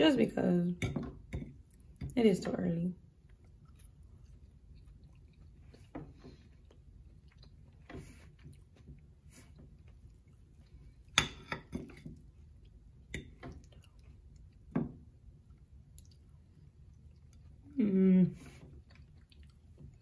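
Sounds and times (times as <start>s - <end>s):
quiet chewing: 3.1s - 20.0s.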